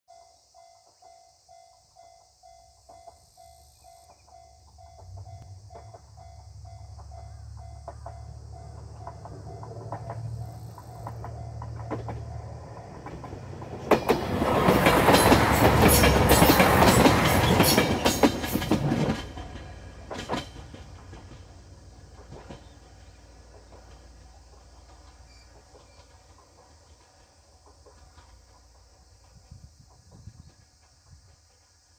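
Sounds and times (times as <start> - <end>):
wheels clacking over rail joints: 4.0 - 31.8.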